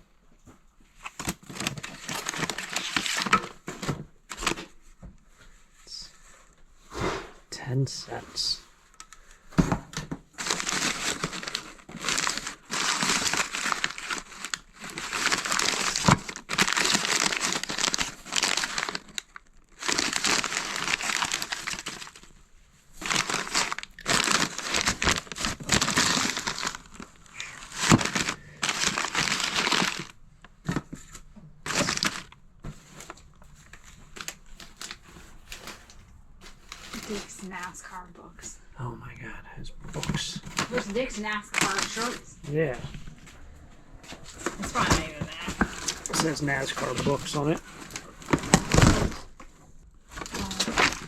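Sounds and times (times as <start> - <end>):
wrapping crinkling: 0.9 - 6.1, 10.2 - 38.0, 40.0 - 51.0.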